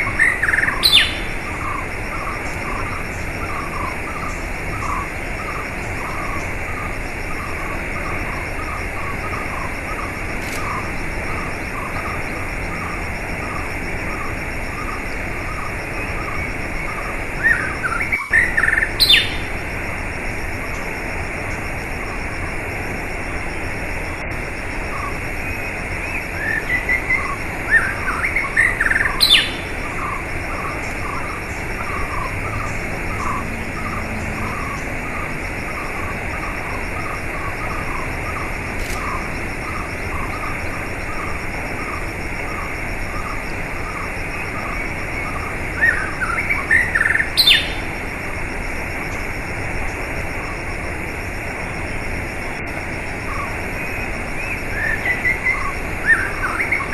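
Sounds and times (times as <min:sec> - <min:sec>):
small birds chirping: 0:00.0 - 0:19.7, 0:24.8 - 0:48.0, 0:53.2 - 0:56.9.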